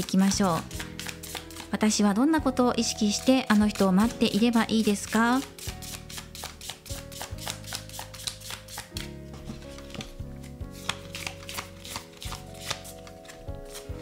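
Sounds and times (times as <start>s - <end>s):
cards being shuffled: 0.0s - 1.7s, 3.2s - 14.0s.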